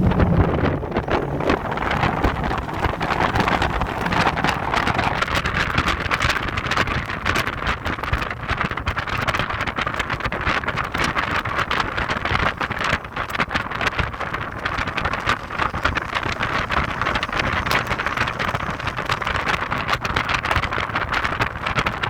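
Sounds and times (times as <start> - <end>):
car driving noise: 0.0 - 22.0
wind buffeting microphone: 0.0 - 22.0.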